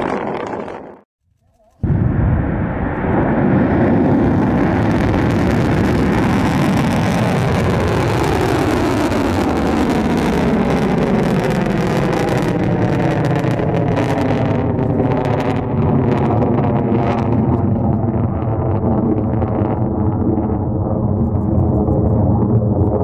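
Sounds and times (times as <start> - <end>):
rocket motor rumbling: 1.7 - 23.0.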